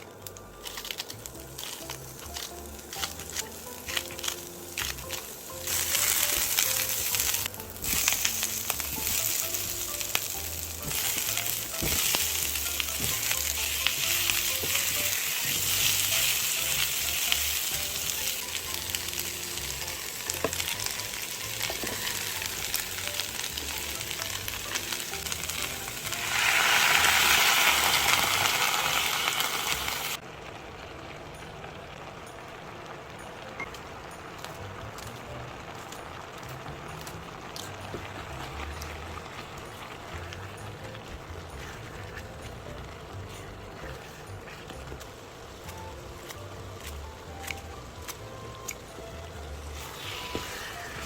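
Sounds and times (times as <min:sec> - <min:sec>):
food sizzling in hot oil: 0:00.6 - 0:30.3, 0:31.9 - 0:51.0.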